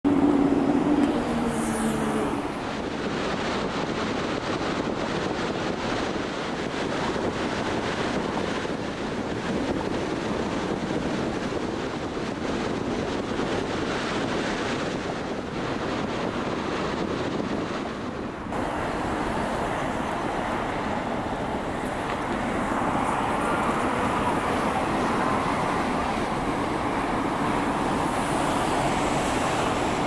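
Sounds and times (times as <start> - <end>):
traffic engine hum: 0.0 - 4.2, 4.8 - 30.0
road and wind noise: 0.0 - 30.0.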